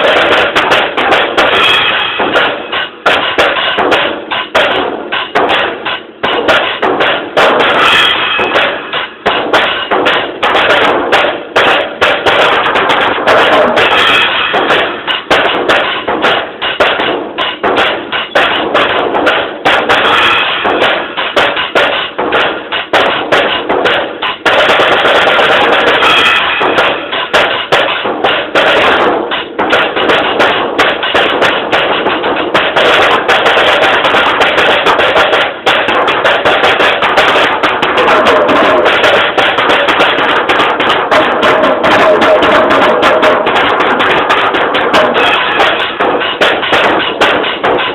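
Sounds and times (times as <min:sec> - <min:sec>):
drum solo: 0:00.0 - 0:47.9.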